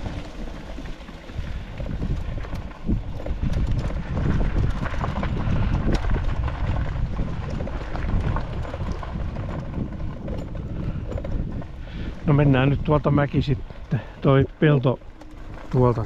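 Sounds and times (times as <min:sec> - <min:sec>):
vehicle running: 0:00.0 - 0:16.0
wind buffeting microphone: 0:00.0 - 0:16.0.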